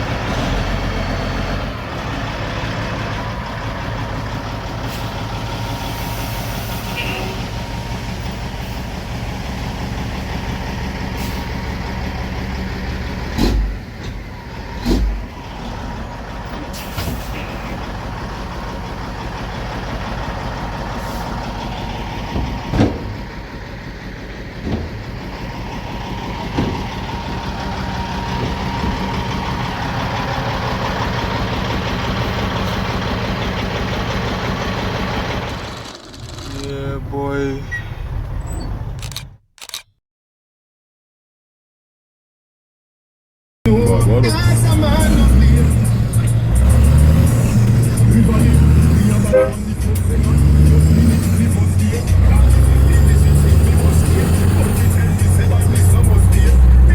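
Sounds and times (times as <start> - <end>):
diesel truck engine running: 0.0 - 39.8, 43.7 - 56.9.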